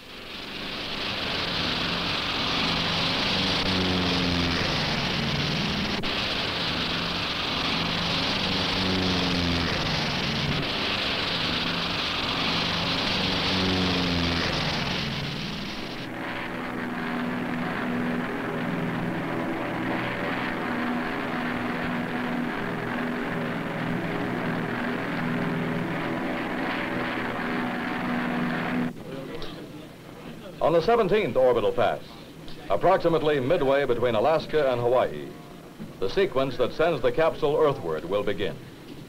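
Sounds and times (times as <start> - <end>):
piston plane engines roaring: 0.0 - 39.0
softer steady engine drone: 0.0 - 39.0.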